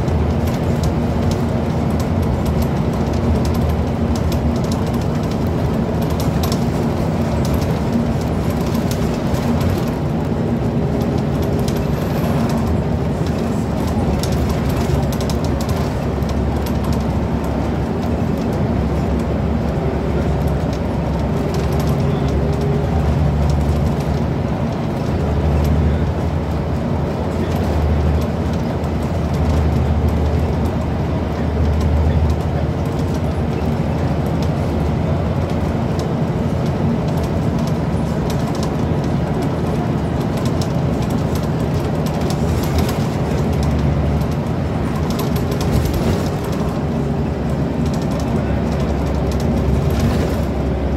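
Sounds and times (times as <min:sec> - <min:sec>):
bus interior rattles and clicks: 0:00.0 - 0:50.9
diesel engine drone: 0:00.0 - 0:50.9
road noise: 0:00.0 - 0:50.9.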